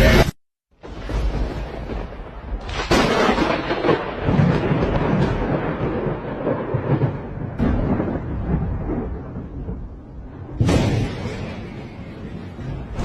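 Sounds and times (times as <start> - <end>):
rolling thunder rumble: 0.8 - 13.0
thunder crack: 0.8 - 13.0.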